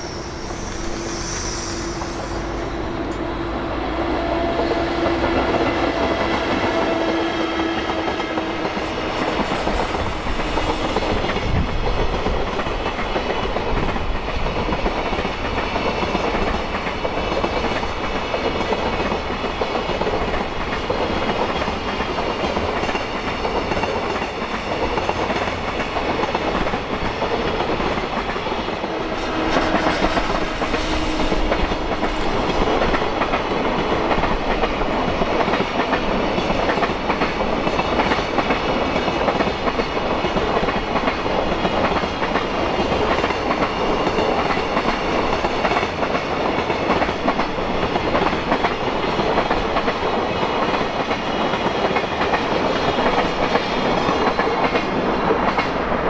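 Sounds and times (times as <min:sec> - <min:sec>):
freight train wheels clickety-clack: 0:00.0 - 0:56.0.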